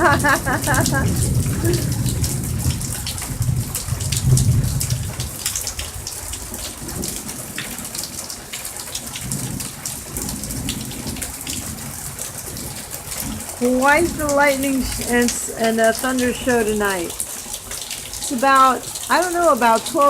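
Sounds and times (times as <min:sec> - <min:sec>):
thunder rumble: 0:00.0 - 0:08.2, 0:09.1 - 0:17.2
close drips and splashes: 0:00.0 - 0:20.0
steady rain: 0:00.0 - 0:20.0.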